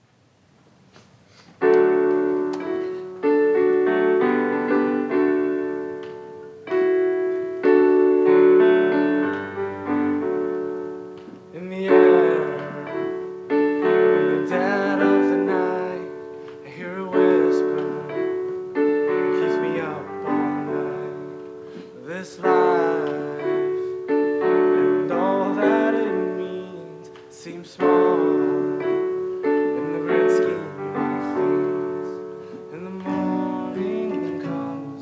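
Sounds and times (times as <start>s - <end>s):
slow piano chords: 1.3s - 35.0s.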